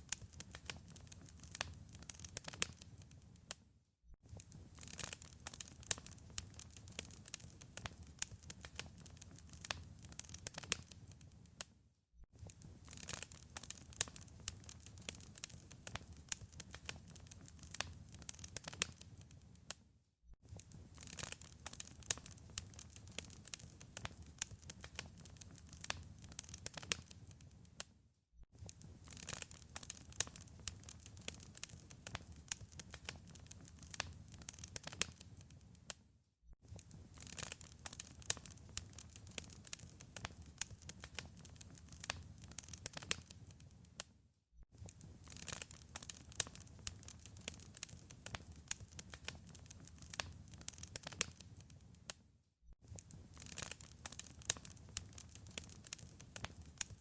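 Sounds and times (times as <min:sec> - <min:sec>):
wood fire crackling: 0:00.0 - 0:03.6, 0:04.3 - 0:11.7, 0:12.4 - 0:19.8, 0:20.5 - 0:27.9, 0:28.6 - 0:36.0, 0:36.6 - 0:44.1, 0:44.8 - 0:52.2, 0:52.8 - 0:57.0.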